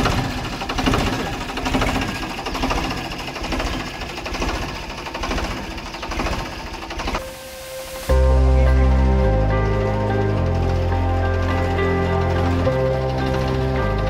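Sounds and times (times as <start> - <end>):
diesel tractor engine knocking: 0.0 - 7.2, 8.7 - 14.0.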